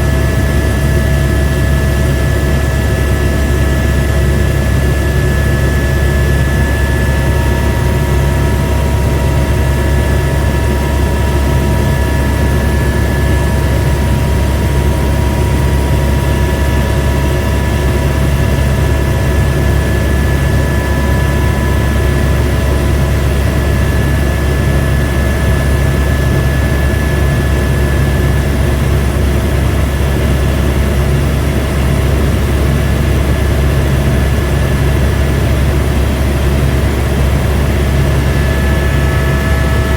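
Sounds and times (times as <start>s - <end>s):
helicopter rotor drone: 0.0s - 39.9s
turbine whine: 0.0s - 39.9s.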